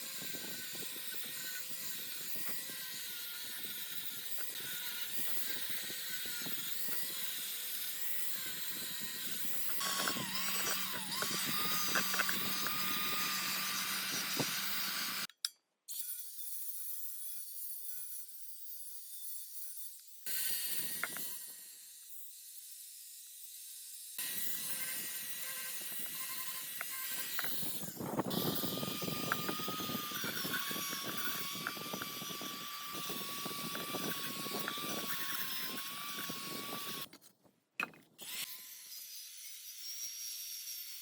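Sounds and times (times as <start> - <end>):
power tool working on metal: 0.0 - 15.3, 20.3 - 37.1, 38.2 - 41.0.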